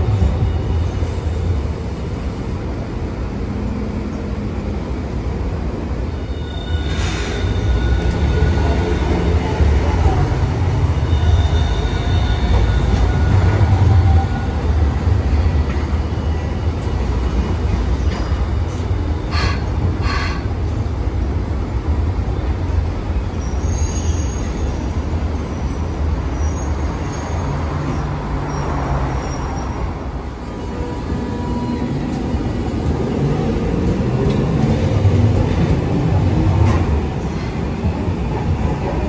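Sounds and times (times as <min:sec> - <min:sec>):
tram rumbling by: 0:00.0 - 0:39.0.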